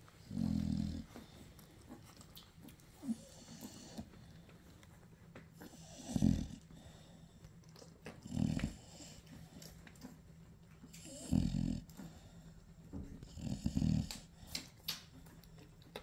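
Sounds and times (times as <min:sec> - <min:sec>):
dog breathing low and rough: 0:00.0 - 0:15.8.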